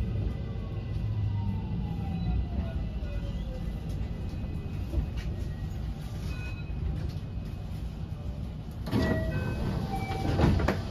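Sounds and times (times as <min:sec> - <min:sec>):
train interior low rumble: 0:00.0 - 0:10.9.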